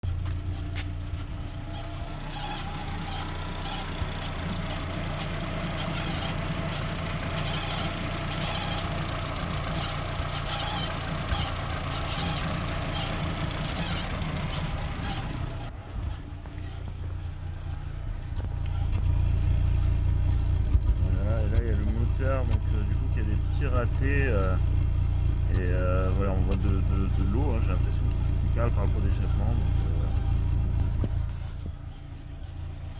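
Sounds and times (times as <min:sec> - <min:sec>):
car engine humming: 0:00.0 - 0:32.9.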